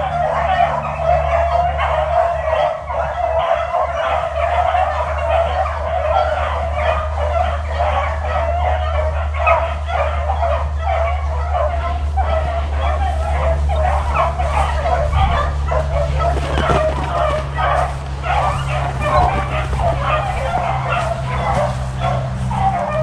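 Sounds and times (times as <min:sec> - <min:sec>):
dogs baying: 0:00.0 - 0:23.0.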